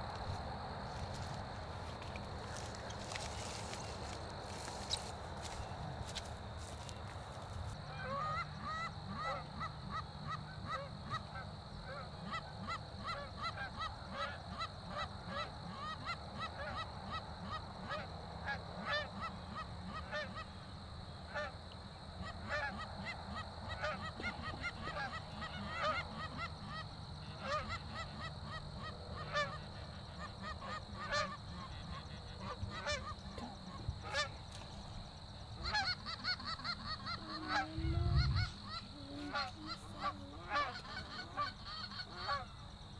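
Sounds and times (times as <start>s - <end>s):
geese honking: 0.9s - 20.6s, 22.2s - 42.7s.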